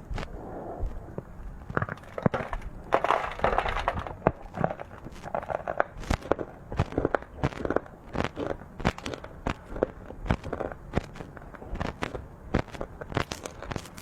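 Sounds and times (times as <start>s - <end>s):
chewing crunchy sweets: 0.0s - 14.0s.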